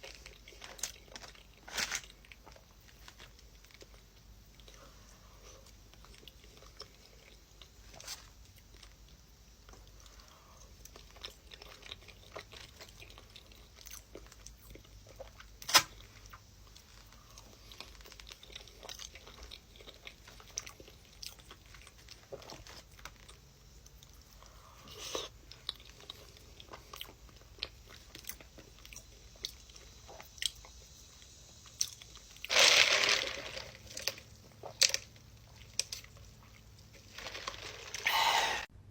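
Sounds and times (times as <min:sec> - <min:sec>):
person chewing crunchy food: 0:00.0 - 0:38.7.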